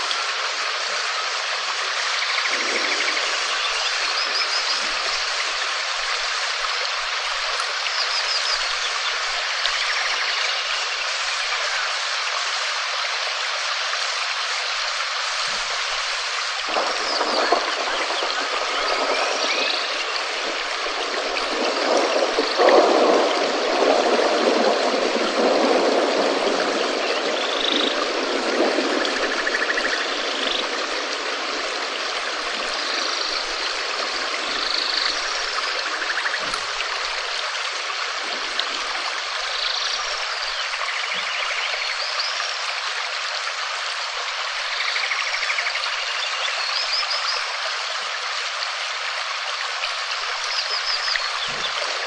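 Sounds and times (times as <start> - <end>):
steady rain falling: 0.0 - 52.0
water running and trickling: 0.0 - 52.0.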